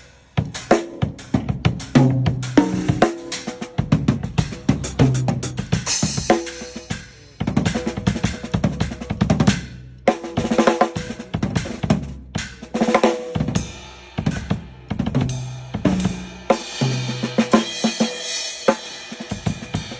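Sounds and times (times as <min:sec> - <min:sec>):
drum kit fills: 0:00.0 - 0:19.9.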